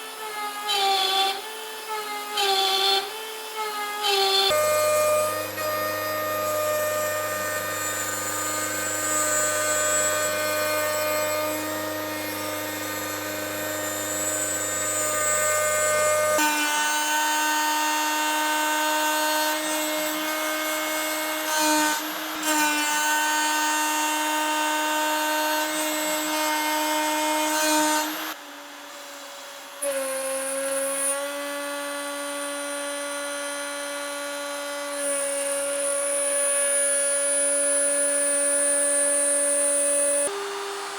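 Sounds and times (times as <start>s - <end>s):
router spindle whining while cutting: 0.0s - 40.9s.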